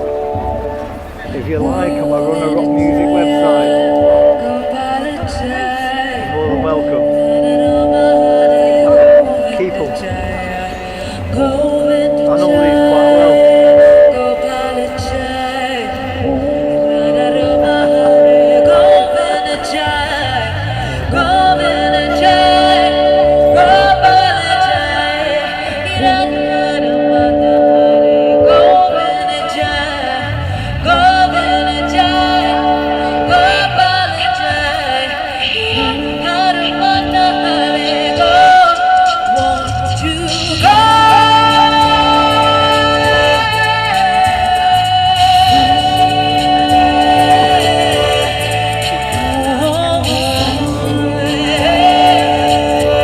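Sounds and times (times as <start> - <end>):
accompanying chords: 0.0 - 53.0
person singing: 0.0 - 53.0.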